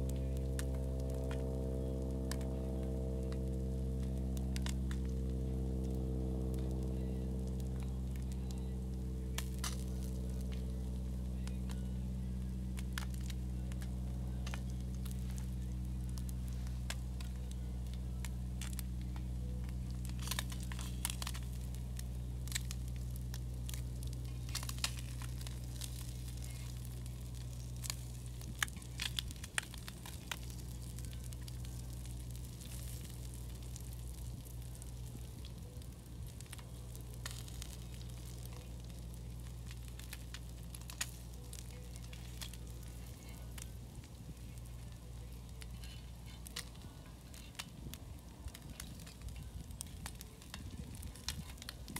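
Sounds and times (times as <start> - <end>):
sharp crackles and clicks: 0.0 - 51.9
steady low hum: 0.0 - 51.9.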